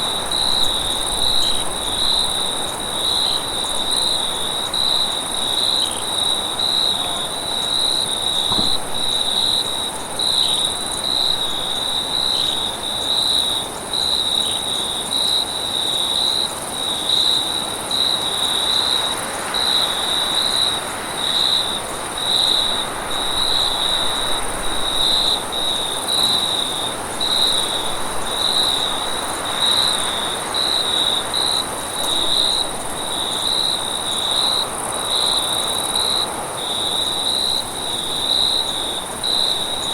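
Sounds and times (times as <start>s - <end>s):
cricket trill: 0.0s - 39.9s.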